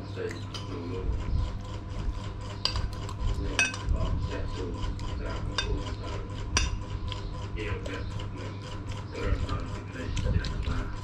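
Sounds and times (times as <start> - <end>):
steady low hum: 0.0 - 11.0
metal spoon scraping a plate: 0.4 - 11.0.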